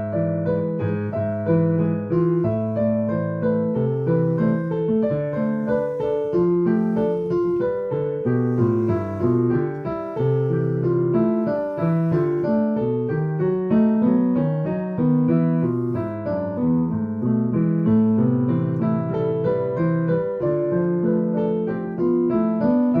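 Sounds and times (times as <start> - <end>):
solo piano improvisation: 0.0 - 23.0.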